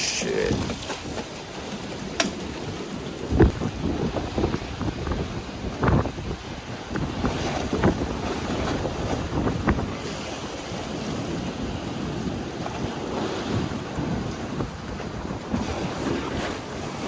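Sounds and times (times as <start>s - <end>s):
choppy water: 0.0s - 17.0s
wind buffeting microphone: 0.0s - 17.0s.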